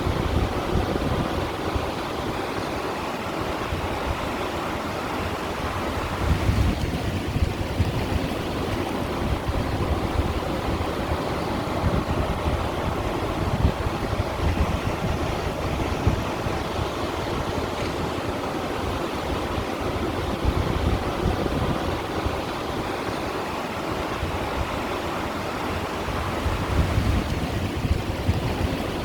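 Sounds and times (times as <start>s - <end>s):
waves washing against stones: 0.0s - 29.0s.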